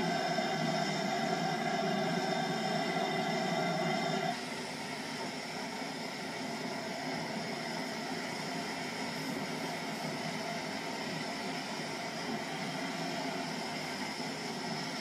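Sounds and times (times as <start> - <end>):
hiss of escaping steam: 0.0 - 15.0
steady whine: 0.0 - 15.0.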